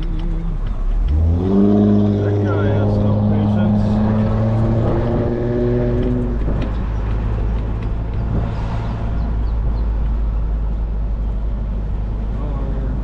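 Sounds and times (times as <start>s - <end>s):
car engine and road rumble: 0.0s - 13.0s
pitched engine drone: 0.0s - 13.0s.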